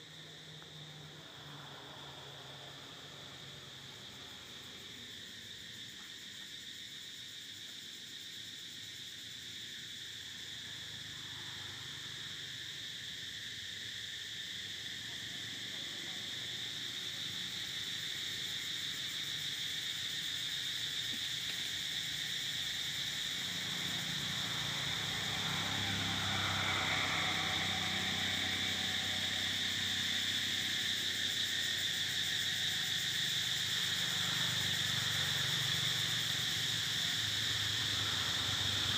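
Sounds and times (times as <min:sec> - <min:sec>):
insects droning in chorus: 0:00.0 - 0:38.9.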